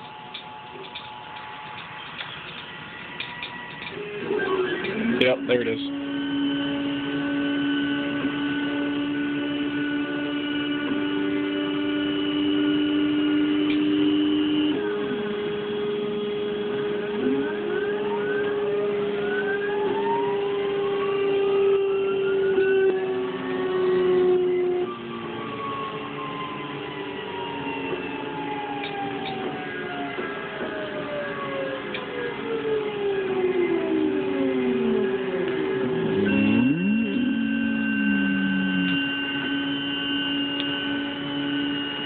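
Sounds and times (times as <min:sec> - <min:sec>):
stepper motors whining: 0:00.0 - 0:42.0.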